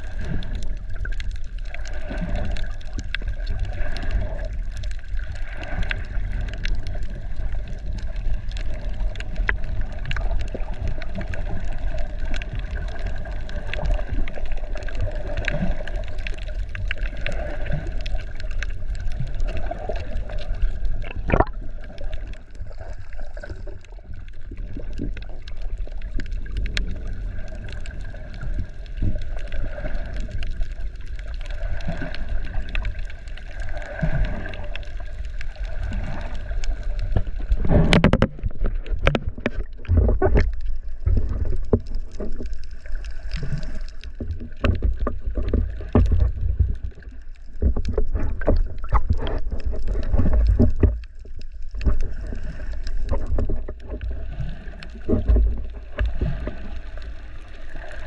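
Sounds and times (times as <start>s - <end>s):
water splashing and sloshing: 0.0s - 58.0s.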